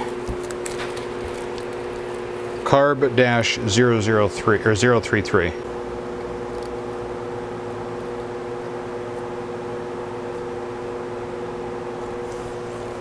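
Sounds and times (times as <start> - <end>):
electric fan whirring: 0.0 - 13.0.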